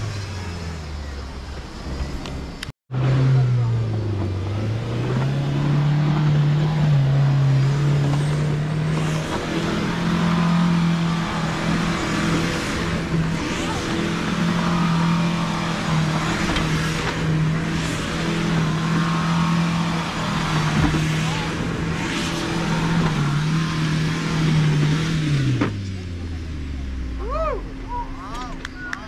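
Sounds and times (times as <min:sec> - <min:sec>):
engine running under load: 0:00.0 - 0:29.0.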